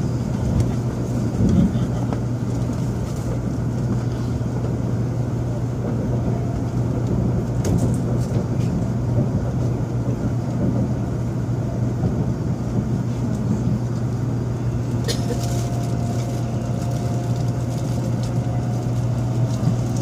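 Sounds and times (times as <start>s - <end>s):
train cabin rumble: 0.0s - 20.0s.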